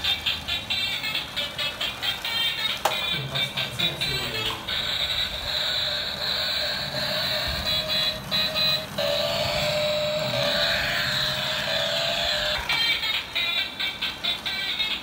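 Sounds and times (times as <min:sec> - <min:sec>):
toy speaker electronic tone: 0:00.0 - 0:15.0.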